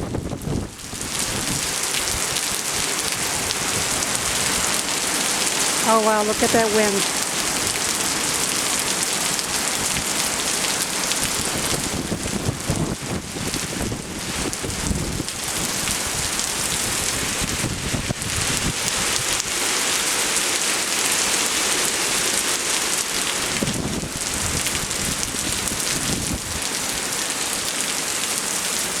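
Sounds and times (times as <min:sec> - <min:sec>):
rumbling wind gusts: 0:00.0 - 0:08.8, 0:09.4 - 0:27.0
heavy rain hiss: 0:00.0 - 0:29.0.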